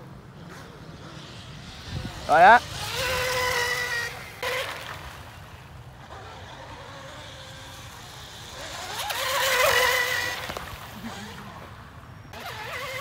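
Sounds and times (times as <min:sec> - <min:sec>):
rc boat motor whining: 0:00.3 - 0:13.0.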